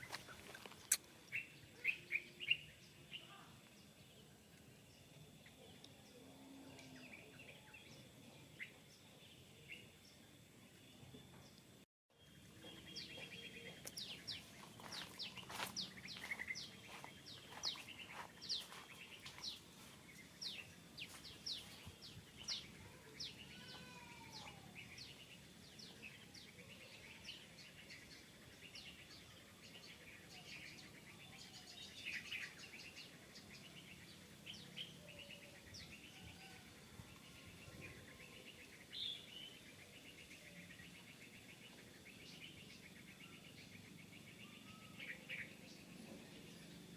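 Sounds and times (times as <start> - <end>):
birds chirping: 0.0 - 46.9
faint outdoor background noise: 0.0 - 46.9.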